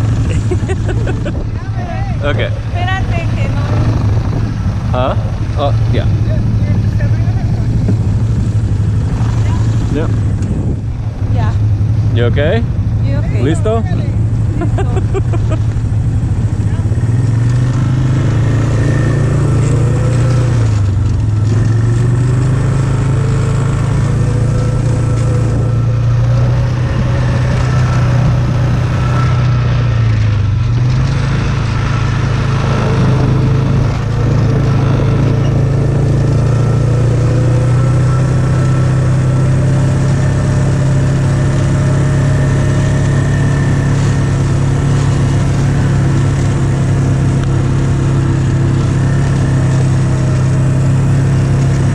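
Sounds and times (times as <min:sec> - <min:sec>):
atv engine running: 0:00.0 - 0:51.9
second engine: 0:00.0 - 0:51.9.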